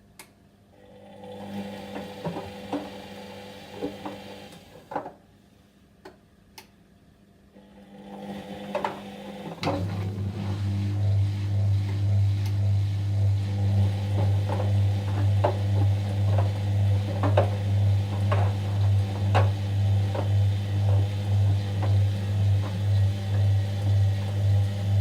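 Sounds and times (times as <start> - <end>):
washing machine humming: 0.9 - 4.8, 7.6 - 25.0.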